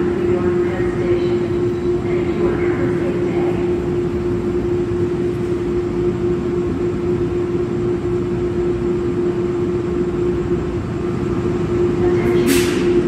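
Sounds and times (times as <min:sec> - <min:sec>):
locomotive hum tone: 0:00.0 - 0:13.0
locomotive low rumble: 0:00.0 - 0:13.0.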